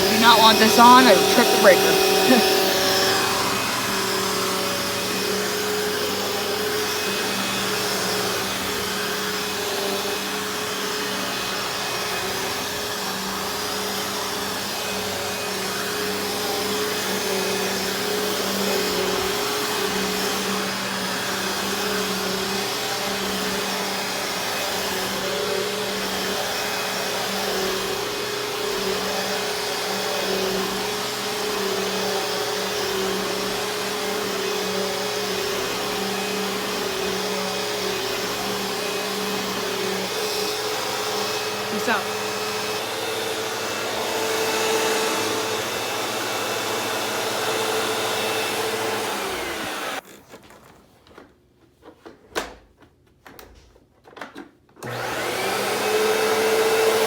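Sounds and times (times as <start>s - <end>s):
upright vacuum cleaner running: 0.0s - 50.0s, 54.8s - 57.0s.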